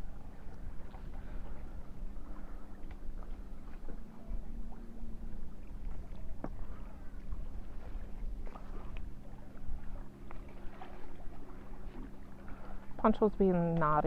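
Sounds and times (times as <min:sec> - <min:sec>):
faint low hum: 0:00.0 - 0:14.0
wind rumbling on microphone: 0:00.0 - 0:14.0.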